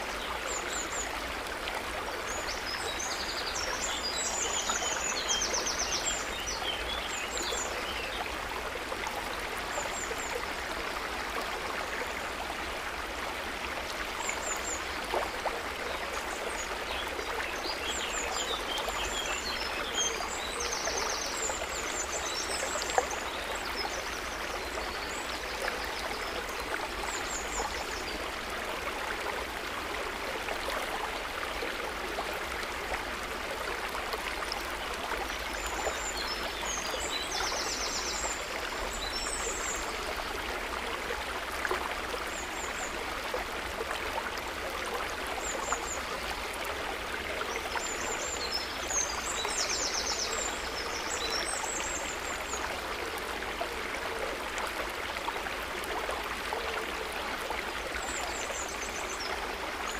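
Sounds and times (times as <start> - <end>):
lake water trickling and gurgling: 0.0 - 59.9.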